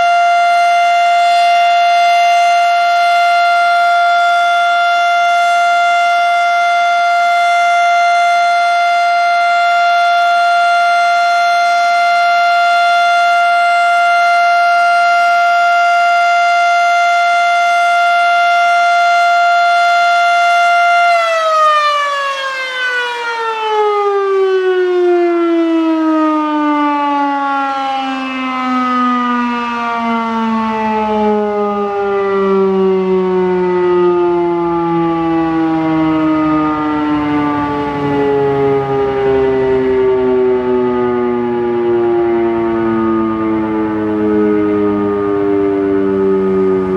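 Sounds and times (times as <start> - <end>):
siren winding down: 0.0 - 46.9.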